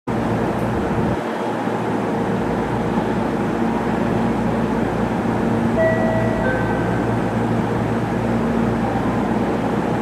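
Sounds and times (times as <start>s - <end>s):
railway rumble: 0.1s - 10.0s.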